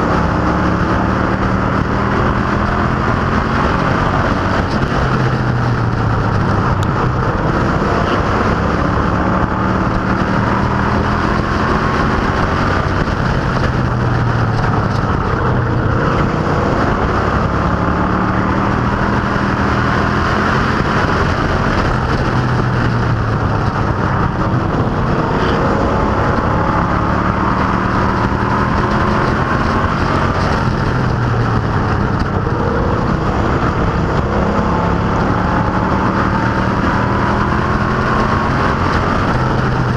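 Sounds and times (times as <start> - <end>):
race car engines racing: 0.0 - 39.9.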